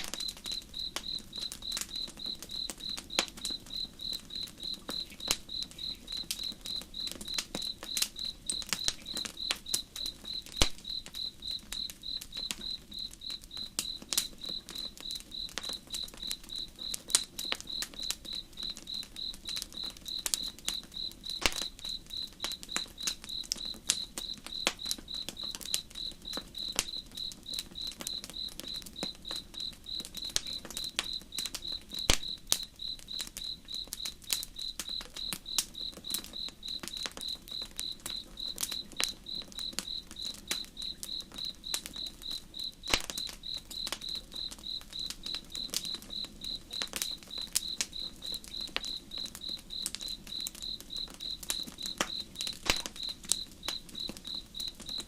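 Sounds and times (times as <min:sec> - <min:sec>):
campfire popping and crackling: 0:00.0 - 0:55.0
crickets chirping: 0:00.0 - 0:55.0.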